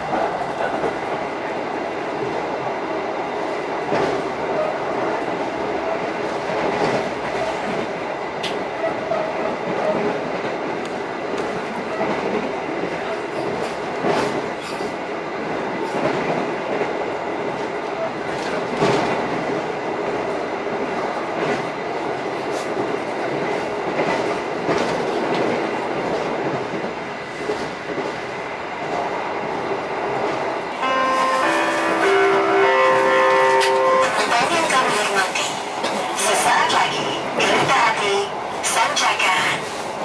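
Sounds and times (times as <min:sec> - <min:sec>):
train rumbling on rails: 0:00.0 - 0:40.0.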